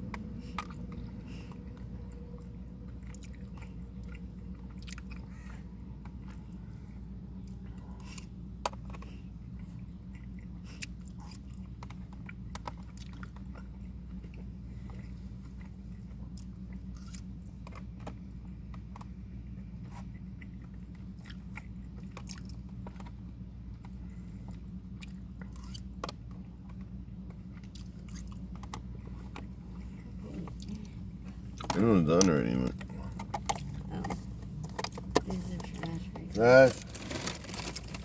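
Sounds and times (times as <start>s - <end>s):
person chewing crunchy food: 0.0s - 35.2s, 36.3s - 38.0s
steady low hum: 0.0s - 38.0s.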